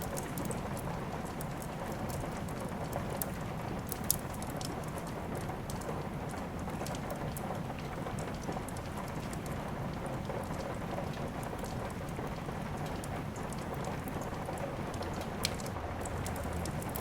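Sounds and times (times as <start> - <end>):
steady rain: 0.0 - 17.0
wood fire crackling and popping: 0.0 - 17.0.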